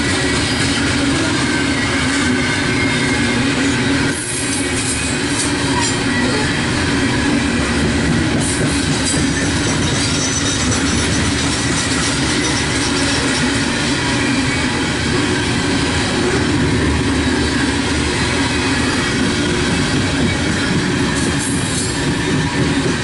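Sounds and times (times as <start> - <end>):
freight train wheels on rails: 0.0 - 23.0.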